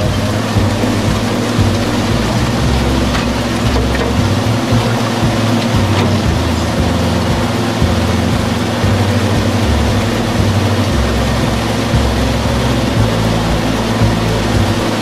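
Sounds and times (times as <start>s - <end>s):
shredder machine droning: 0.0s - 15.0s.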